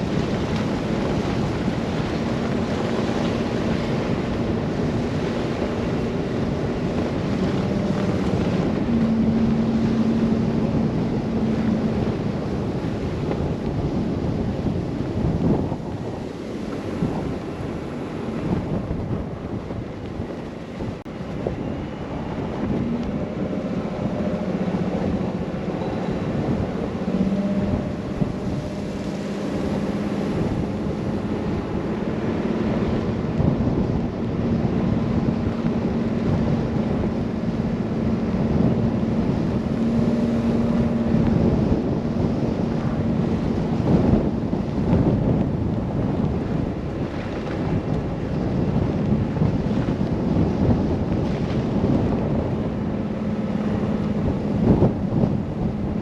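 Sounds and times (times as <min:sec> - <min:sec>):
car engine hum: 0:00.0 - 0:56.0
wind buffeting microphone: 0:00.0 - 0:56.0.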